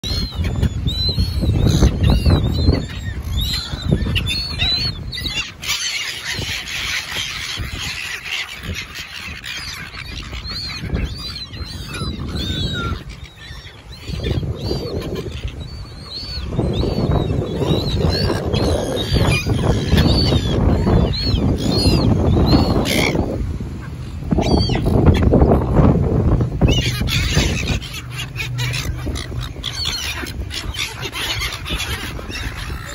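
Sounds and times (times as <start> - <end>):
gulls calling: 0.0 - 32.9.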